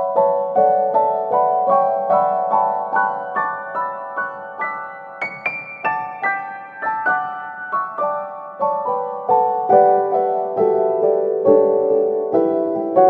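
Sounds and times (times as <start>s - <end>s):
piano notes: 0.0s - 13.0s.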